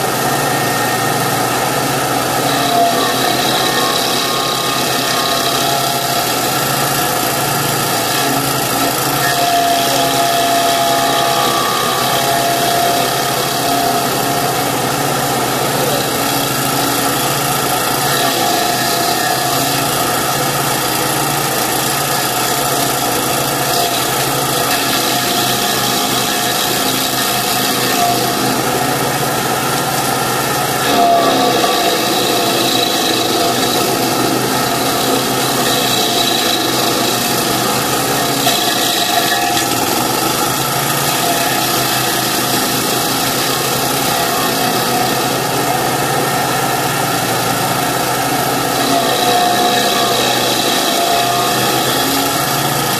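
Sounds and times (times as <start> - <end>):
loader engine with stump grinder: 0.0 - 52.9.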